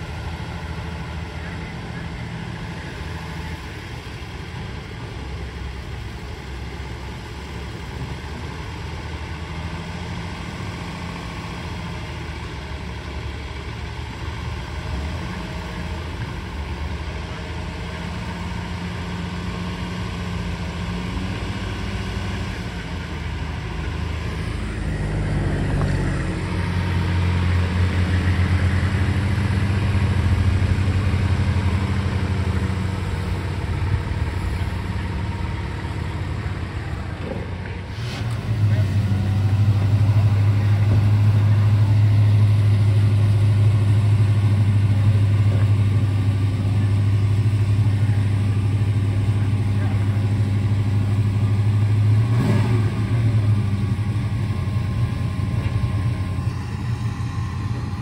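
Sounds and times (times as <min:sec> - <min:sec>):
pickup truck engine rumbling: 0:00.0 - 0:58.0.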